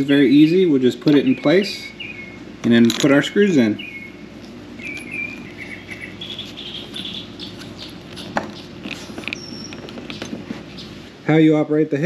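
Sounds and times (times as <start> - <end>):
birds chirping: 0.0 - 11.1.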